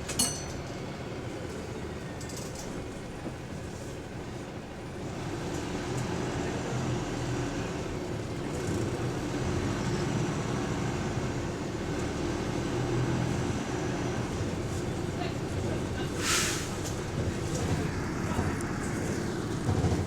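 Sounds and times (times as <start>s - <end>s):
bus engine hum from inside: 0.0s - 20.0s.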